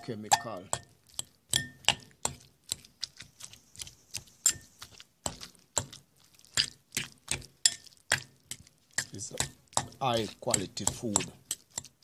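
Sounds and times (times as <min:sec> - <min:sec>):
soft squishing of mashed pumpkin: 0:00.0 - 0:12.0.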